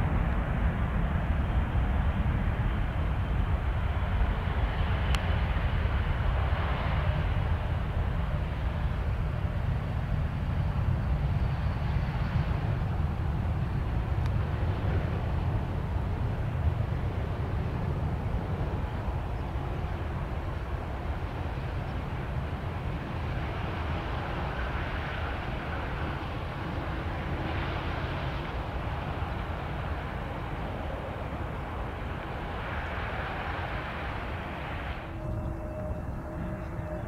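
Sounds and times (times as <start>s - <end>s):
jet engines rumbling: 0.0s - 37.0s.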